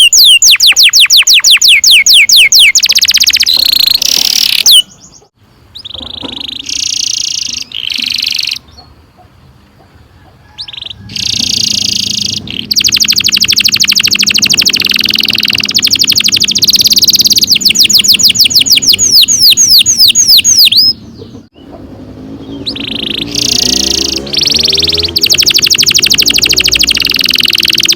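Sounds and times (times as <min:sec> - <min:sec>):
canary singing trills: 0:00.0 - 0:27.9.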